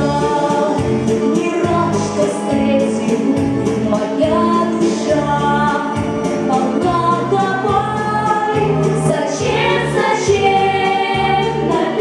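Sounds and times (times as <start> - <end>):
amplified backing track with beat: 0.0 - 12.0.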